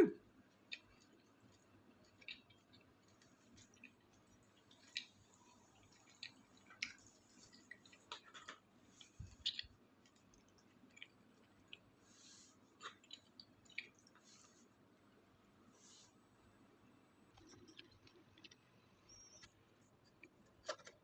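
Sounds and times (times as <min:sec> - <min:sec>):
person chewing food: 0:00.3 - 0:14.8, 0:17.2 - 0:21.0.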